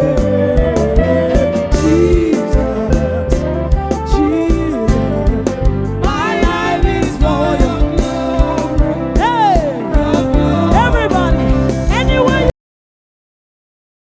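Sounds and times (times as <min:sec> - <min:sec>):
gospel singing voice: 0:00.0 - 0:12.5
steady music beat: 0:00.0 - 0:12.5.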